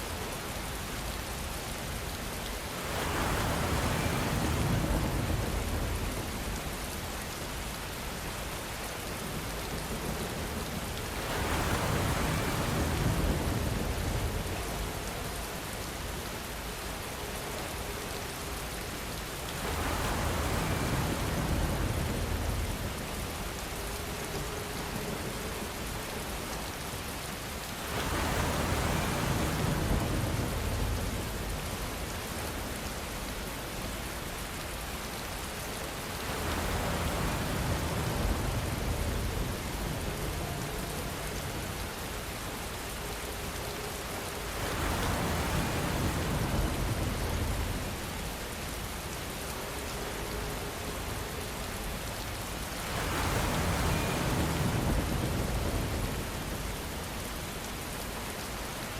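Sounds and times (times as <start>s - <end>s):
rainfall hiss: 0.0s - 58.9s.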